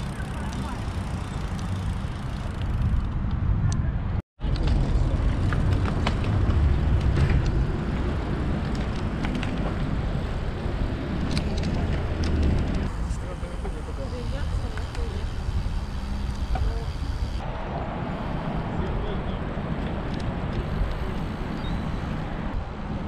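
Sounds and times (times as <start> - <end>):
wind and road rumble: 0.0 - 23.0.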